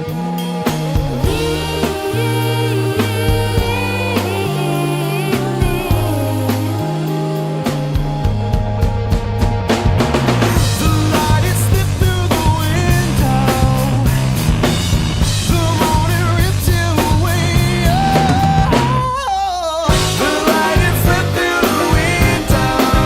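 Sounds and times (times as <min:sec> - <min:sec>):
wavering lead melody: 0:00.0 - 0:19.2, 0:19.9 - 0:23.0
bass: 0:00.0 - 0:23.0
drum kit beat: 0:00.0 - 0:23.0.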